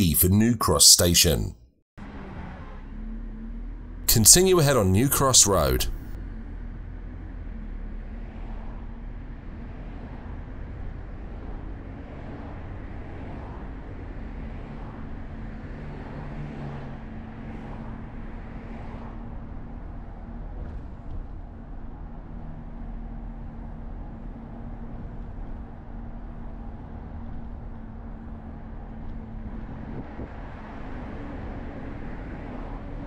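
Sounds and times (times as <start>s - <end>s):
road and wind noise: 2.0s - 4.0s, 5.2s - 33.0s
passing traffic: 2.0s - 23.3s, 25.6s - 33.0s.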